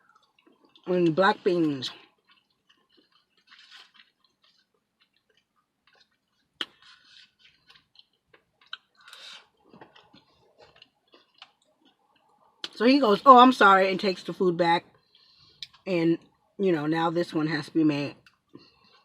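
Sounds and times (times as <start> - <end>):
soft wet chewing: 0.0 - 12.8, 14.8 - 16.6, 18.2 - 19.0.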